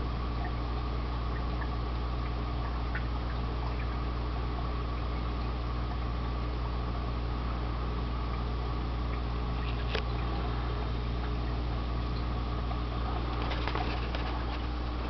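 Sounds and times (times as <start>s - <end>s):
aquarium equipment hum and hiss: 0.0s - 15.0s.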